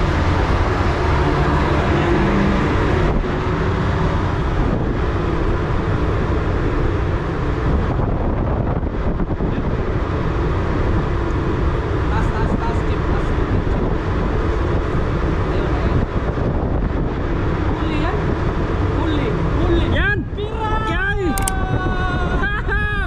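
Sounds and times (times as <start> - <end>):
ship machinery drone: 0.0 - 23.0.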